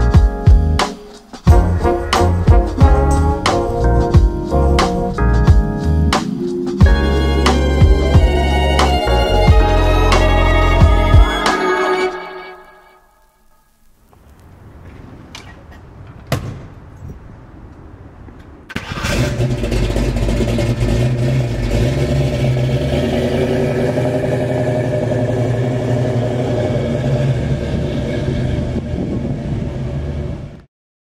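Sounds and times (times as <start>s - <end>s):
car engine starting and running: 0.0s - 12.1s, 17.7s - 30.7s.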